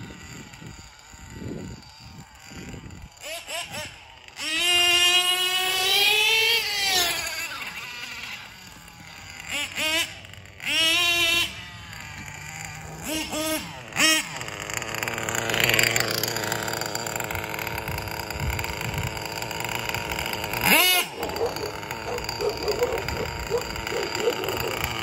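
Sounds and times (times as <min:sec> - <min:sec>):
small nitro engine revving: 0:00.0 - 0:25.0.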